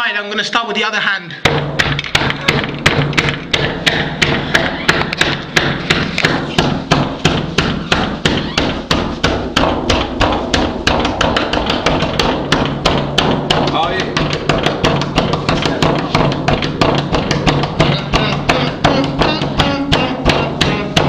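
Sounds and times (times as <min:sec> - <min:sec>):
fist pounding a hard floor: 0:01.4 - 0:21.0.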